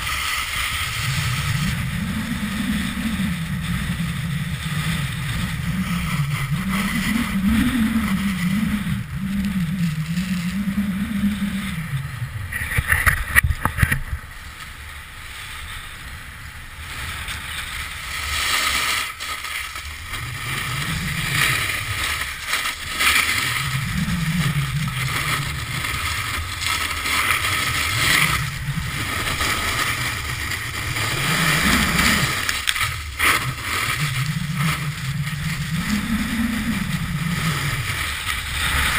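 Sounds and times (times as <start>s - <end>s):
wind buffeting microphone: 0.0s - 14.9s, 19.7s - 38.9s
snowboard scraping over snow: 0.0s - 38.9s.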